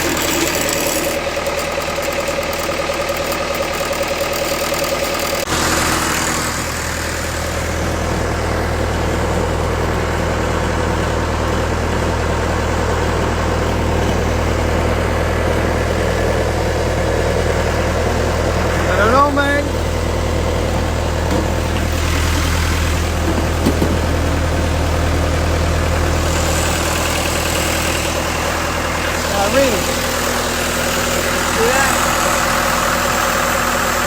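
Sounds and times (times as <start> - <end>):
welder engine running: 0.0 - 34.0.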